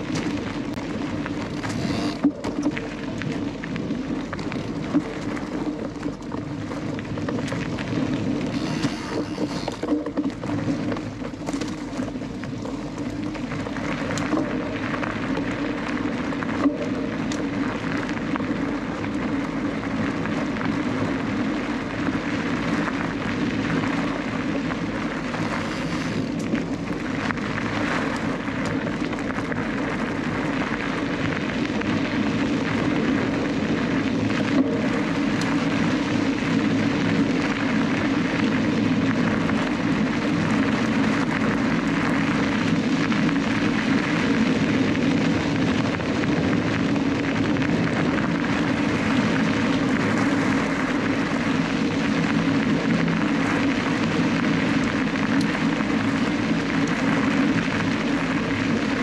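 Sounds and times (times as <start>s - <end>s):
bike tyres rolling over gravel: 0.0s - 59.0s.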